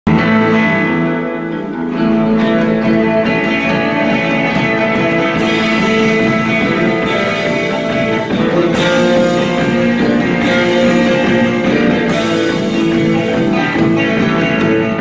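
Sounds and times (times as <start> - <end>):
electric guitars playing: 0.1 - 15.0.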